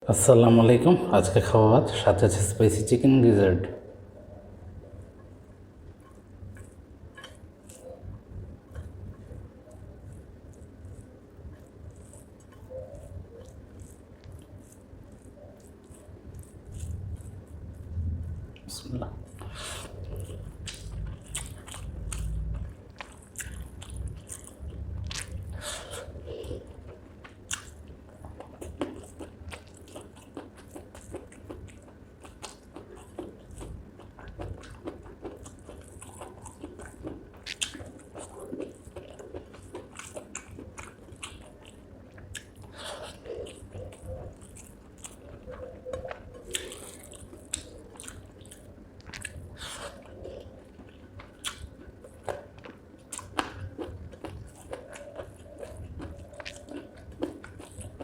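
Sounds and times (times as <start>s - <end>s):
wet chewing and smacking: 6.0s - 58.0s.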